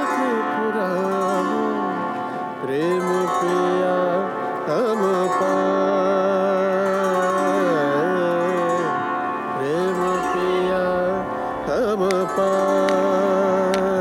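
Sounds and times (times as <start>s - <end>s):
person singing long sliding notes: 0.0s - 14.0s.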